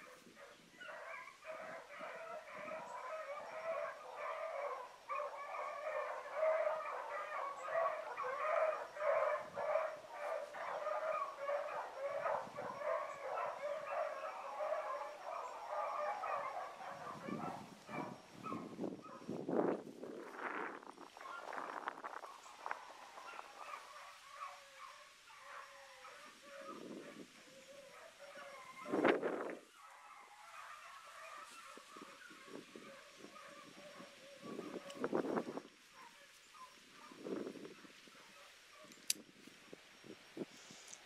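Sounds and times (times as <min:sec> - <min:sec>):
pack of hounds baying: 0:00.0 - 0:19.3, 0:21.1 - 0:29.0, 0:29.6 - 0:37.2.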